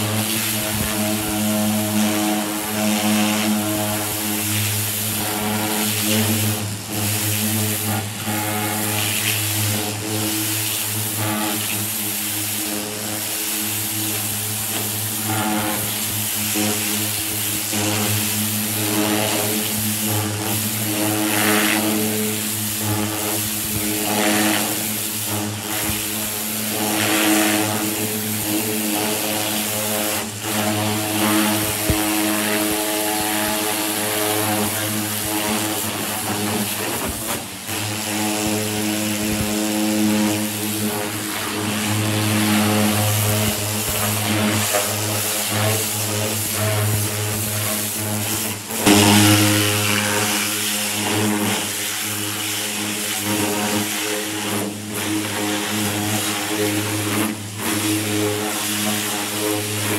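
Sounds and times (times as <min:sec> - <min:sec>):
high-pressure water jet hissing: 0:00.0 - 0:59.9
pressure washer hum: 0:00.0 - 0:59.9.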